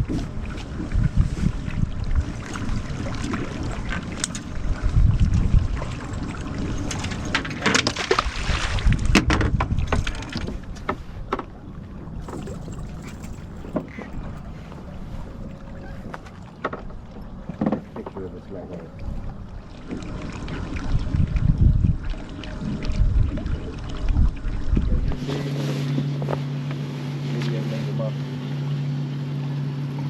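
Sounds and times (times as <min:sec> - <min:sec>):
wind buffeting microphone: 0:00.0 - 0:26.4.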